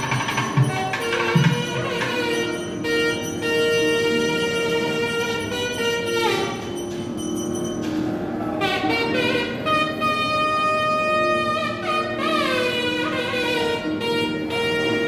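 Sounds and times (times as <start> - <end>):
nadaswaram melody: 0.0 - 15.0.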